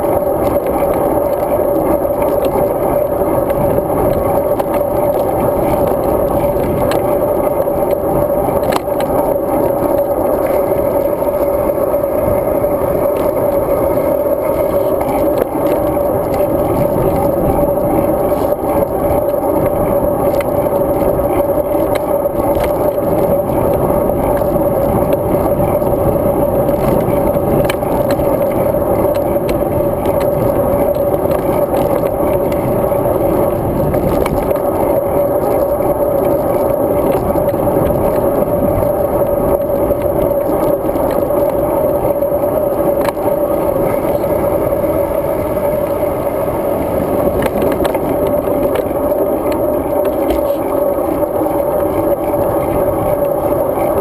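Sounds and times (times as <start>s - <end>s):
bike clicks and rattles: 0.0s - 45.9s, 47.1s - 54.0s
bike road noise hum: 0.0s - 54.0s
rushing wind: 0.0s - 54.0s.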